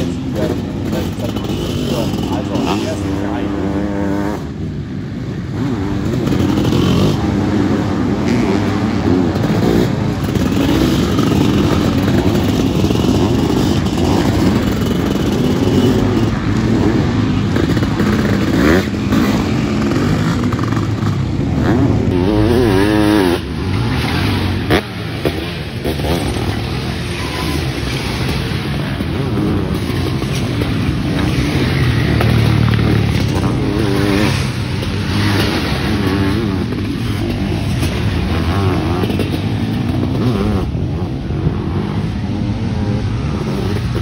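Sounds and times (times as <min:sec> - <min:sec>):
racing engines revving: 0:00.0 - 0:44.0.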